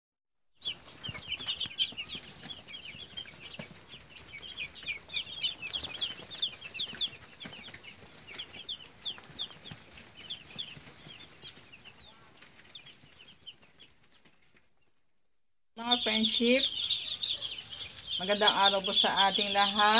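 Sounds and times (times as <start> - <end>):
chicks peeping: 0.6 - 14.9, 15.8 - 19.9.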